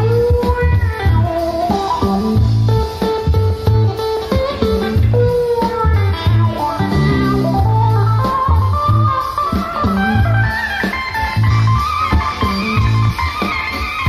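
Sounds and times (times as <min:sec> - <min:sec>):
deep electric bass line: 0:00.0 - 0:13.3
bending lead melody: 0:00.0 - 0:14.0
drums: 0:00.0 - 0:14.0
jazz fusion band playing: 0:00.0 - 0:14.0.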